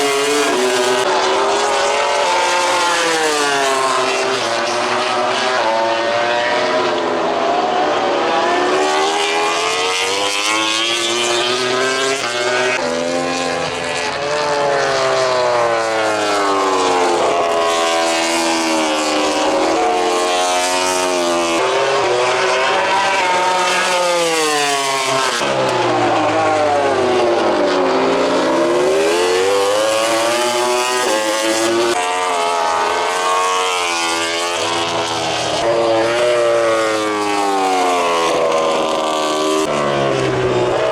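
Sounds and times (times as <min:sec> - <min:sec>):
race motorcycle engines at full throttle: 0:00.0 - 0:40.9.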